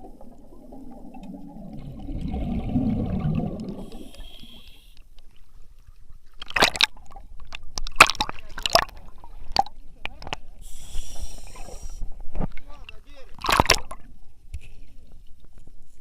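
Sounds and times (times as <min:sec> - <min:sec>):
water gurgling and sloshing: 0:00.0 - 0:10.6, 0:11.4 - 0:16.0.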